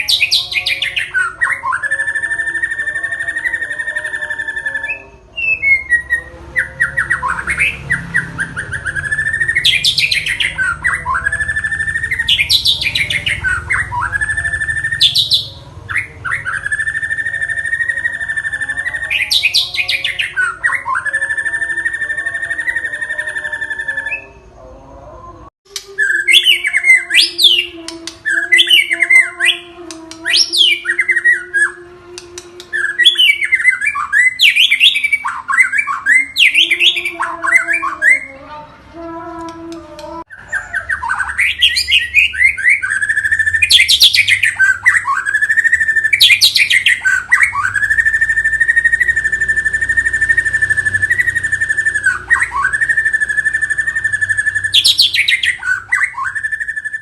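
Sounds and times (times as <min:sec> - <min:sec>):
bird singing trills and whistles: 0:00.0 - 0:24.8, 0:25.7 - 0:38.4, 0:40.2 - 0:57.0.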